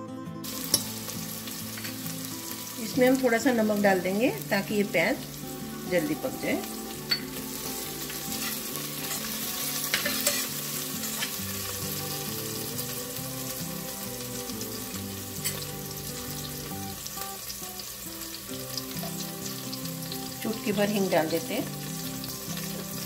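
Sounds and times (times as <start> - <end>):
onions sizzling in hot oil: 0.4 - 23.0.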